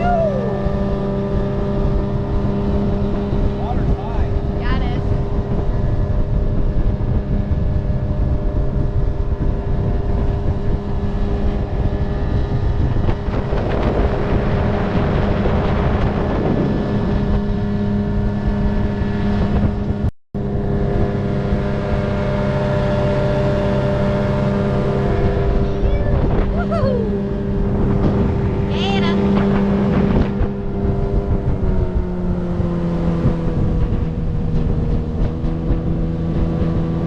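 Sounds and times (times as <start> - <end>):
motorboat engine running: 0.0 - 37.0
rush of wind and water: 0.0 - 37.0.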